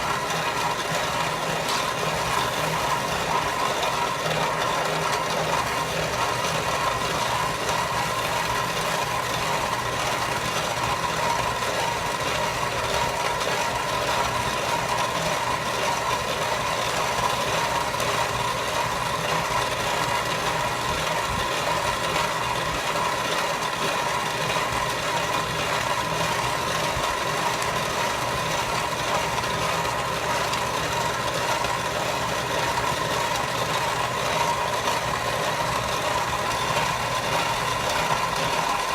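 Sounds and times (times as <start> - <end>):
feed grinder grinding corn: 0.0 - 38.9.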